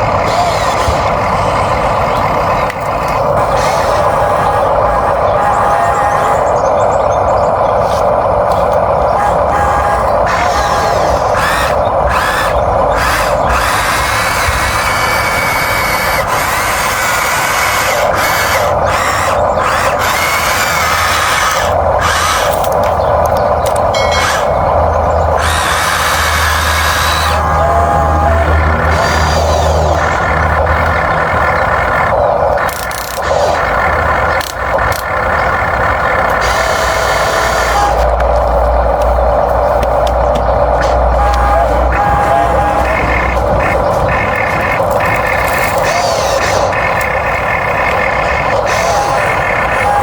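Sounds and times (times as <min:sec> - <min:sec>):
electric motors whirring: 0:00.0 - 0:50.0.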